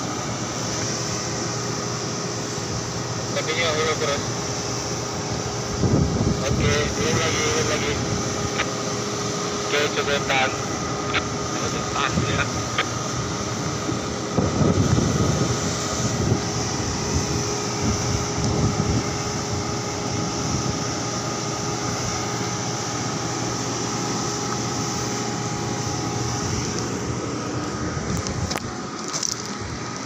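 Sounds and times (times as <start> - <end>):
heavy machinery drone with whining: 0.0 - 30.0.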